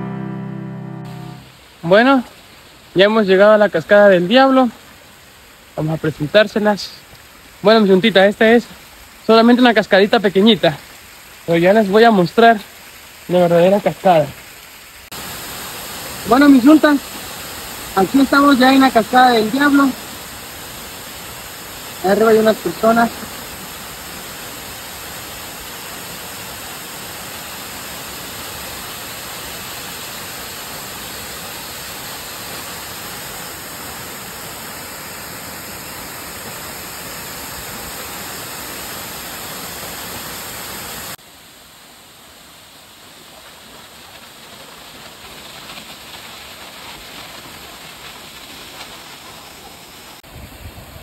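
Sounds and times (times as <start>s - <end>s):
waterfall rushing: 0.0s - 50.3s
flowing water: 1.1s - 51.0s.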